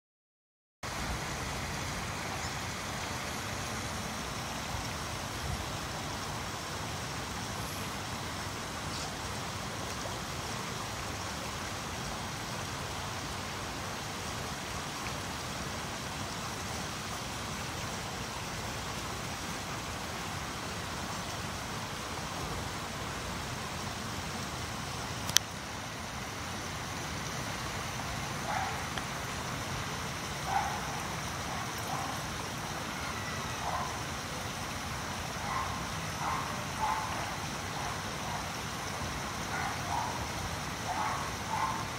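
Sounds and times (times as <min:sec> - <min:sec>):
waterfall rushing water: 0:00.8 - 0:41.9.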